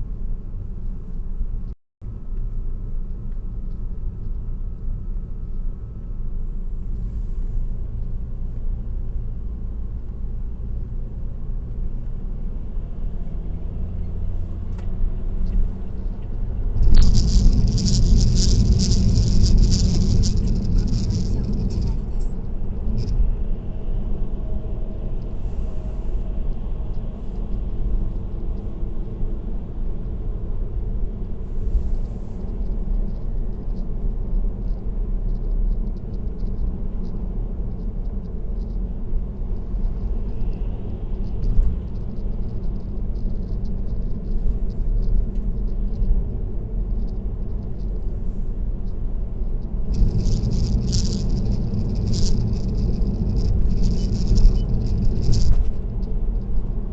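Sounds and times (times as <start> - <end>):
car tyre and engine rumble: 0.0 - 56.9.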